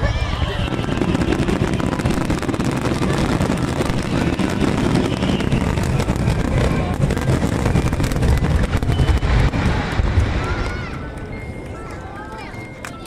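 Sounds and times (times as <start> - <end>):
fireworks crackles: 0.0 - 13.0.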